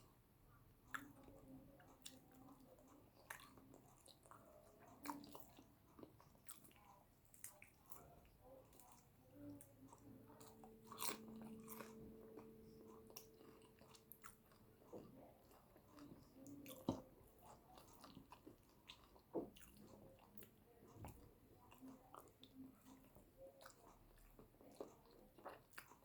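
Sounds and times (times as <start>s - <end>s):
faint steady hum: 0.0s - 26.0s
person chewing food: 0.8s - 26.0s.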